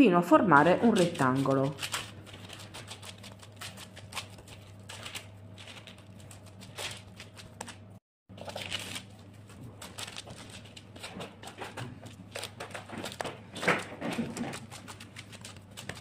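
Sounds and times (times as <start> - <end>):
paper rustling: 0.8 - 16.0.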